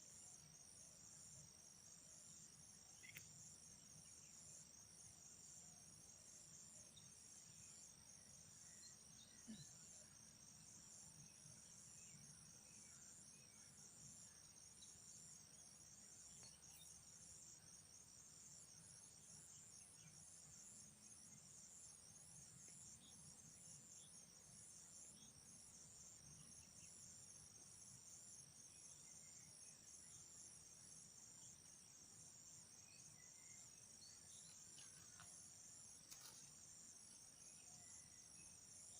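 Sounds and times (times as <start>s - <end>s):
insects trilling: 6.5s - 38.9s.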